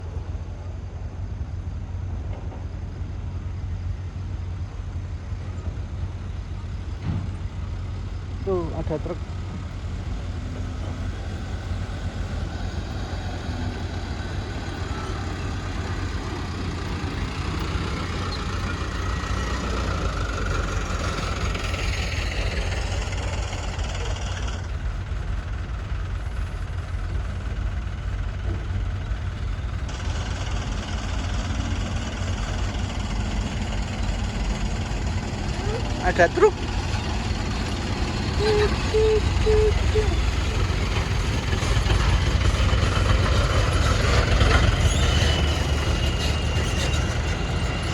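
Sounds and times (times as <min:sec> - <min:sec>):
heavy machinery engine humming: 0:00.0 - 0:47.9.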